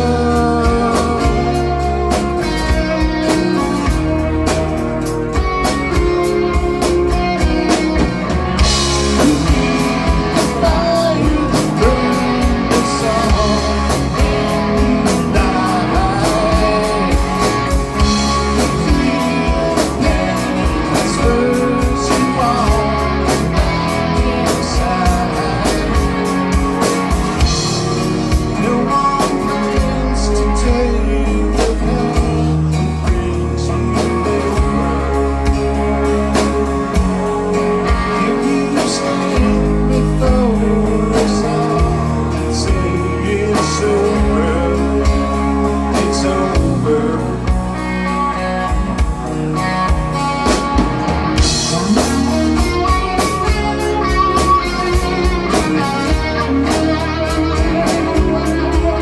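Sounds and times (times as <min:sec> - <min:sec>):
electric guitar lead line: 0:00.0 - 0:59.0
rock band playing: 0:00.0 - 0:59.0.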